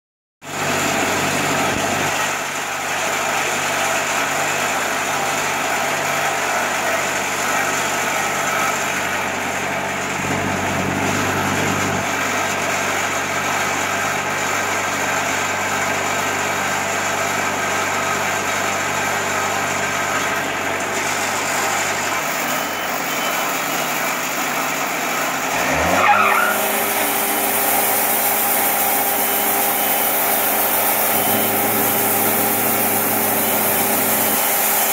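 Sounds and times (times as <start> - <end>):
diesel engine running and revving: 0.4 - 34.9.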